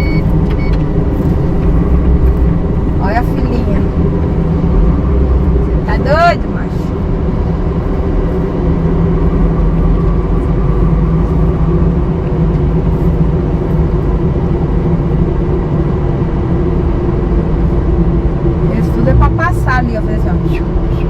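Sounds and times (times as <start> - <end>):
road noise: 0.0 - 21.0
truck engine running: 0.0 - 21.0.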